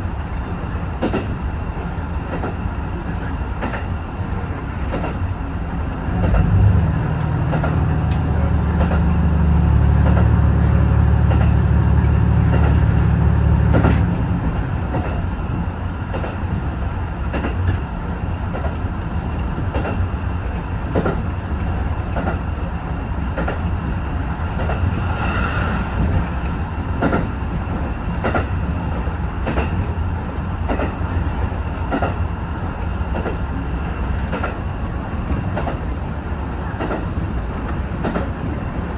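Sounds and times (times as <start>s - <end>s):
deep train engine drone: 0.0s - 38.9s
train running noise: 0.0s - 38.9s.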